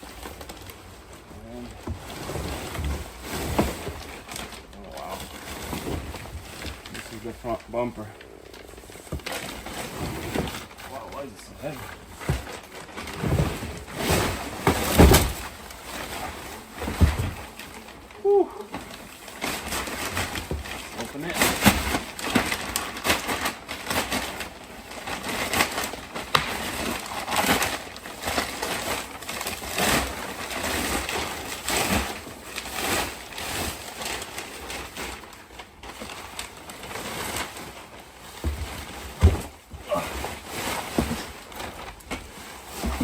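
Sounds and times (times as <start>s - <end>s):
packaging rustling and crinkling: 0.0s - 43.0s.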